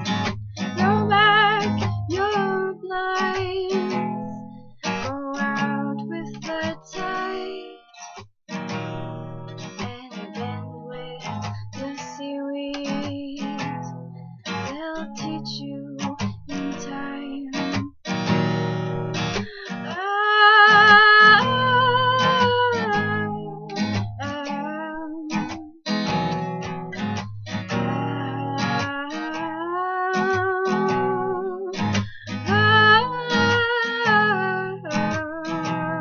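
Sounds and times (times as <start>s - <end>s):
acoustic guitar strumming: 0.0s - 36.0s
woman singing: 0.6s - 7.9s, 9.8s - 18.4s, 19.4s - 25.9s, 27.5s - 36.0s.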